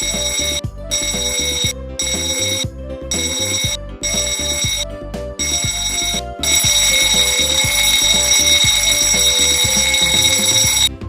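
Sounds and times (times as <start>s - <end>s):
background music with steady beat: 0.0s - 11.0s
ship alarm blasts: 0.0s - 11.0s.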